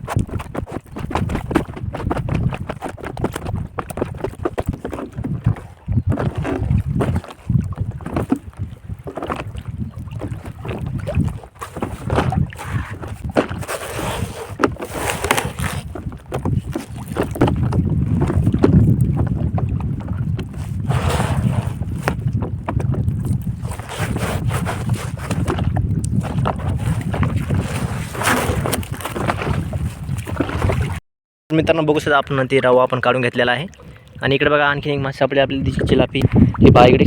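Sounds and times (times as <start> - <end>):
water splashing and knocking: 0.0 - 31.0
wind buffeting microphone: 0.0 - 37.0.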